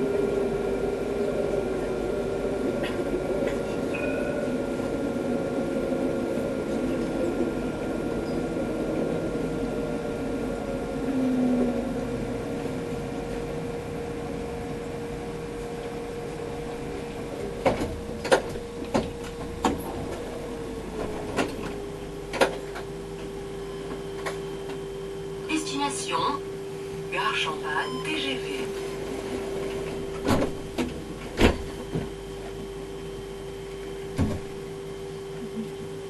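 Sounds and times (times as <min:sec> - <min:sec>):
tram running rumble with whine: 0:00.0 - 0:36.0.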